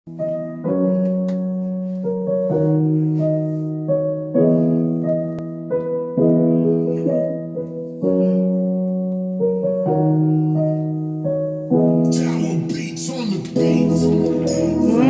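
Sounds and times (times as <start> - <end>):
keyboard playing slow chords: 0.1 - 15.0.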